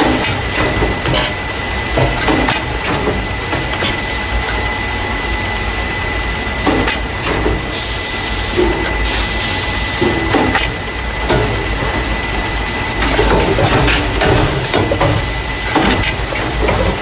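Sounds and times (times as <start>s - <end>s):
machine parts knocking and clacking: 0.0s - 4.8s, 6.6s - 7.8s, 8.6s - 17.0s
packing machine humming: 0.0s - 17.0s.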